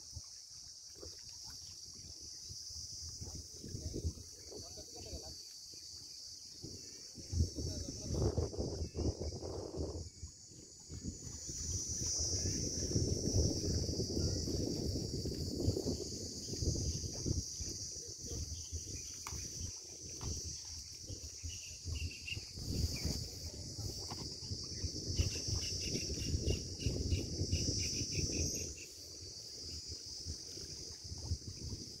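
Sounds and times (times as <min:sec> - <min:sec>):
pulsing insect chirp: 0:00.0 - 0:32.0
high-pitched insect drone: 0:00.1 - 0:32.0.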